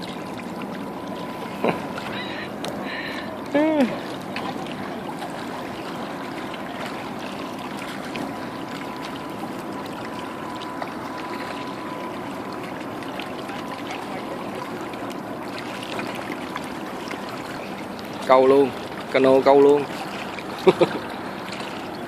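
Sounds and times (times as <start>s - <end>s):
river water lapping on rocks: 0.0s - 22.0s.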